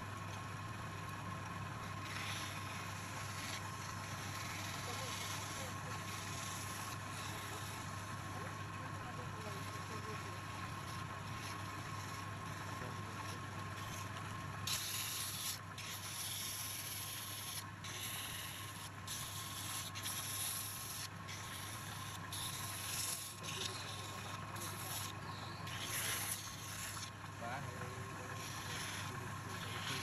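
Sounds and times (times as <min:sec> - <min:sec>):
wood lathe motor humming: 0:00.0 - 0:30.0
sandpaper hissing on spinning wood: 0:01.8 - 0:30.0.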